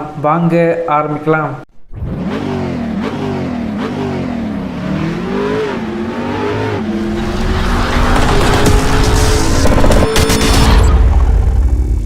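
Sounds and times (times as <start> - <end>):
car engine revving: 1.9 - 12.0.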